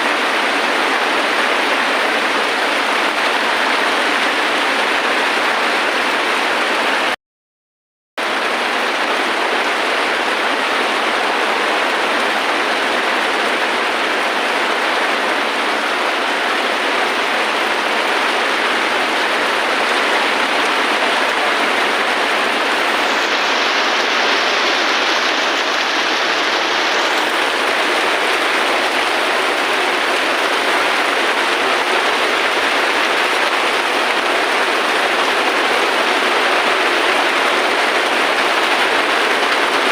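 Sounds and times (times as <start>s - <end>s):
heavy rainfall: 0.0s - 7.2s, 8.2s - 39.9s.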